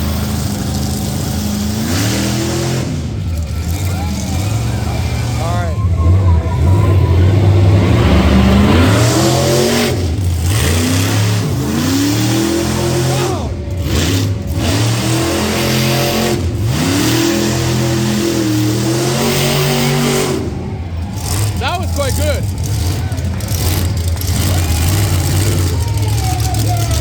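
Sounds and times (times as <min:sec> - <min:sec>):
monster truck engine revving: 0:00.0 - 0:27.0.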